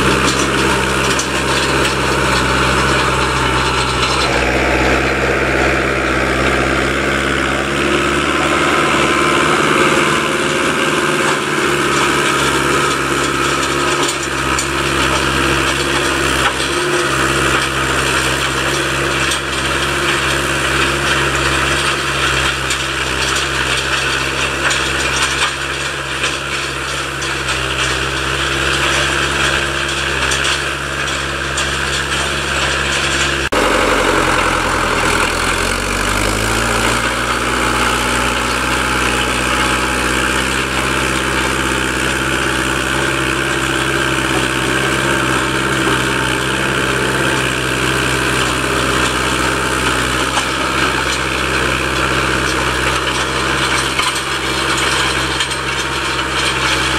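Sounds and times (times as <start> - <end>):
tractor diesel engine under load: 0.0 - 56.9.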